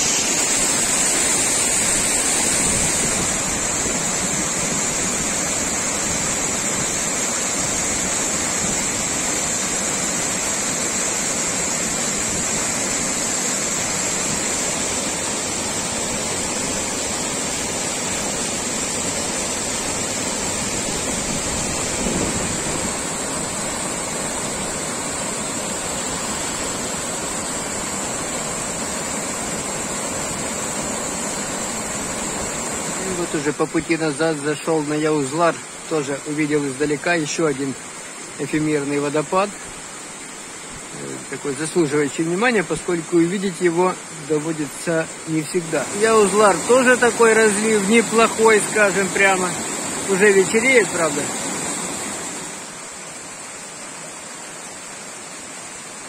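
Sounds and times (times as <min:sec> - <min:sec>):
river rushing over boulders: 0:00.0 - 0:56.0.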